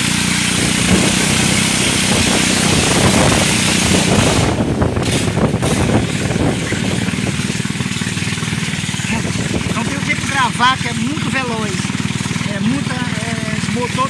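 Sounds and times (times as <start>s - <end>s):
small boat engine running: 0.0s - 14.0s.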